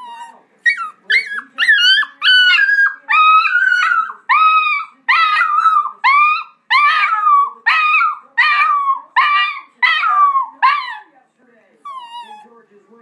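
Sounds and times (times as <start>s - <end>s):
dog giving high-pitched calls: 0.0s - 11.1s.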